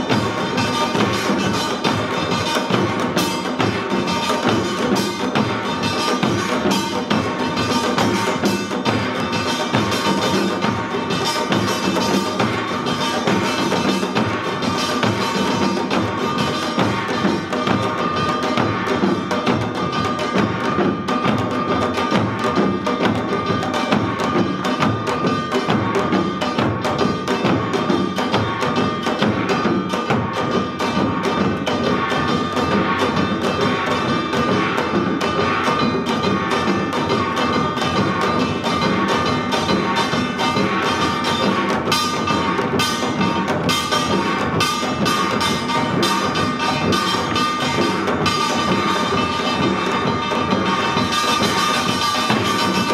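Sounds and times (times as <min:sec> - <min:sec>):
hourglass drums playing fast rhythm: 0:00.0 - 0:52.9
metallic ringing tone: 0:00.0 - 0:52.9.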